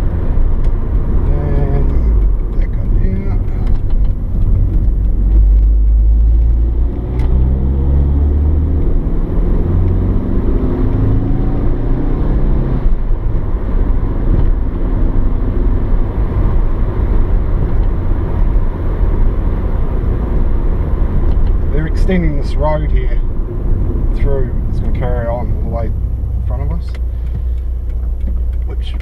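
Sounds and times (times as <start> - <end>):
car engine accelerating: 0.0 - 29.0
road and tyre rumble: 0.0 - 29.0.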